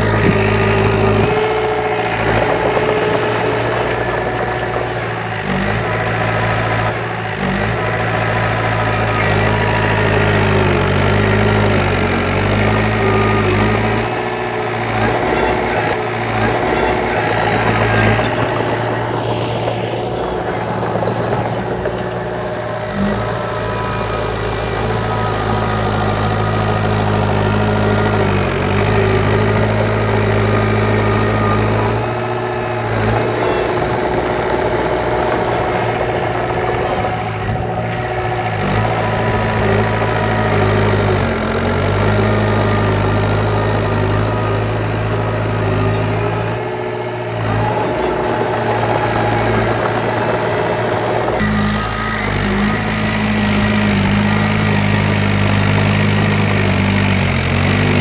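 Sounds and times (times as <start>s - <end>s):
diesel engine running at low revs: 0.0s - 58.0s.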